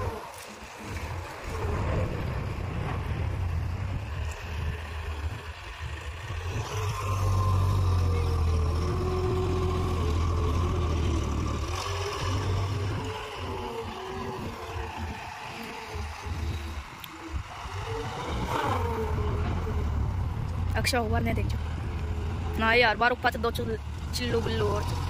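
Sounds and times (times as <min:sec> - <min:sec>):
tractor diesel engine: 0:00.0 - 0:25.0.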